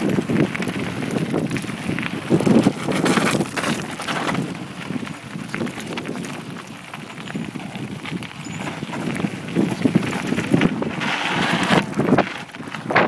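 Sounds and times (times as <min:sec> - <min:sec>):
bike rattling over bumps: 0:00.0 - 0:13.0
tyres crunching on gravel: 0:00.0 - 0:13.0
wind buffeting microphone: 0:00.0 - 0:13.0.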